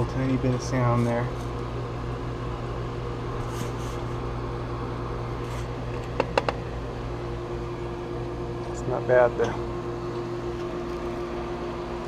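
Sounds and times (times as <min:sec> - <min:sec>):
circulator pump humming: 0:00.0 - 0:12.0.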